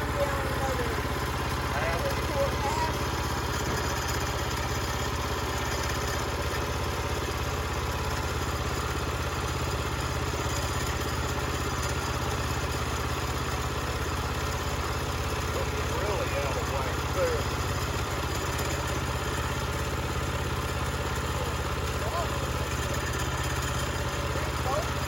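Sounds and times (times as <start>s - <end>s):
gas engine idling: 0.0s - 25.0s.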